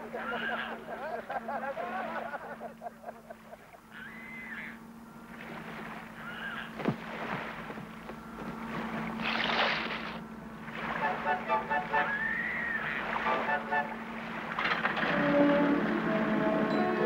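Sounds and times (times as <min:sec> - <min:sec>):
sparse ambient score music: 0:00.0 - 0:17.0.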